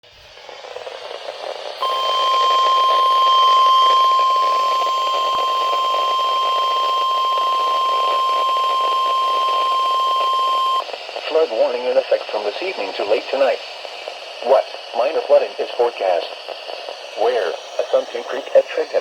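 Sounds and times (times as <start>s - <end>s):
radio static hiss: 0.1s - 19.0s.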